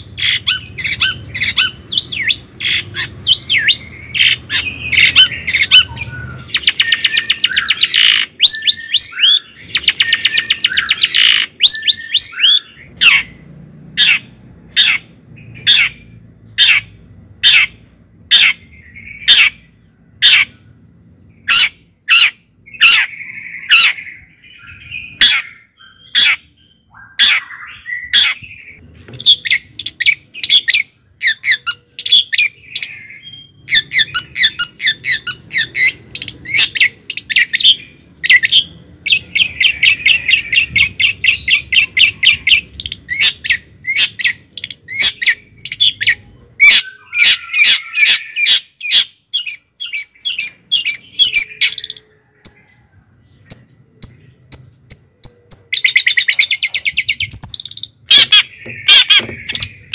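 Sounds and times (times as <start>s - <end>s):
bird chattering trills and squawks: 0.0s - 13.4s, 14.0s - 52.8s, 53.4s - 59.9s.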